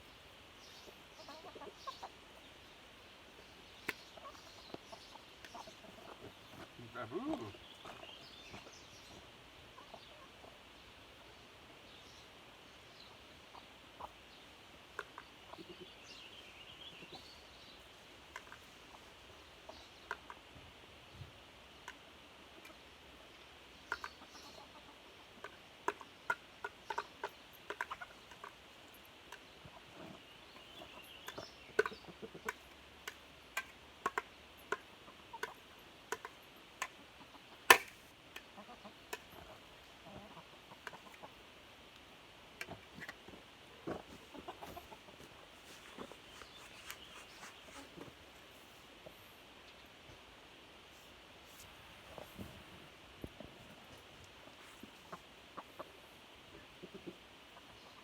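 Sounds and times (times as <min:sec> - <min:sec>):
chickens clucking: 0:00.6 - 0:11.9, 0:12.9 - 0:20.6, 0:21.8 - 0:41.6, 0:42.6 - 0:50.2, 0:51.5 - 0:58.0.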